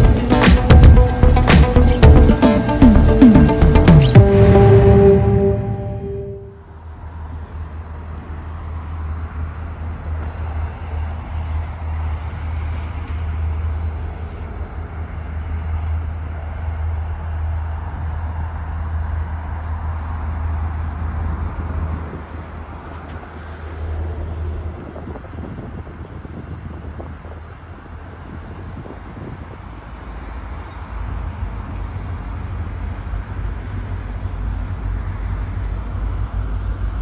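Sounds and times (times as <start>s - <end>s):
distant freight train approaching: 2.1s - 37.0s
wind rumbling on microphone: 7.0s - 37.0s.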